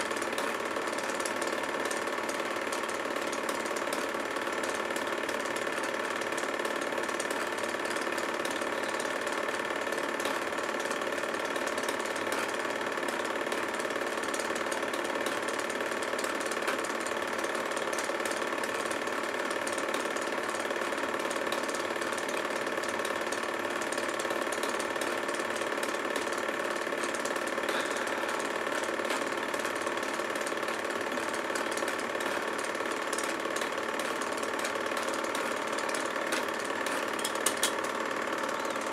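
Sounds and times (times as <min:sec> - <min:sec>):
film mechanism clatter: 0:00.0 - 0:38.9
projector motor hum: 0:00.0 - 0:38.9.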